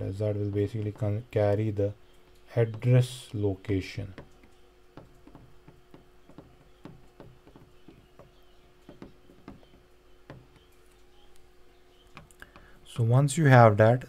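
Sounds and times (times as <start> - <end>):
faint hum: 0.0 - 14.0
stylus tapping on tablet: 0.5 - 12.8.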